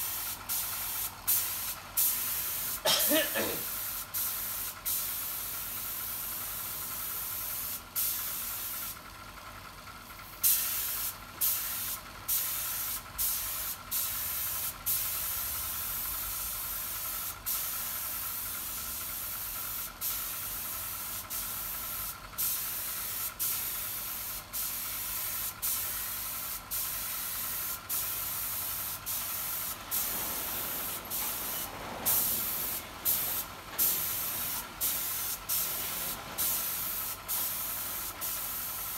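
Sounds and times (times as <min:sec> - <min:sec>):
spray gun hissing: 0:00.0 - 0:05.7, 0:10.4 - 0:18.4, 0:19.3 - 0:38.9.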